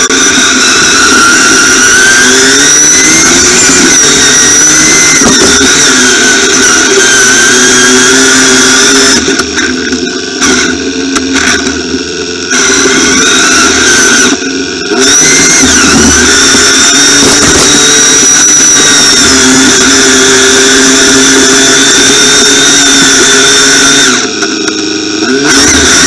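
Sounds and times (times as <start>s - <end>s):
high whine: 0.0s - 26.0s
lawn tractor engine running: 0.0s - 26.0s.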